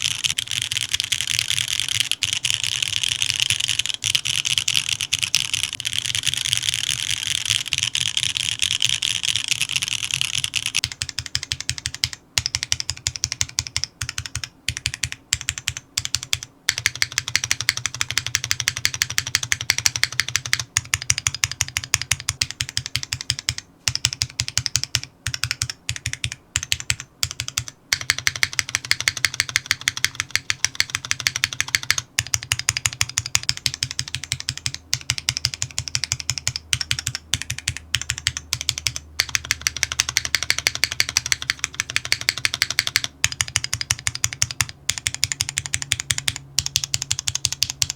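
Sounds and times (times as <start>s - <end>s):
fast mechanical keyboard typing: 0.0s - 47.9s.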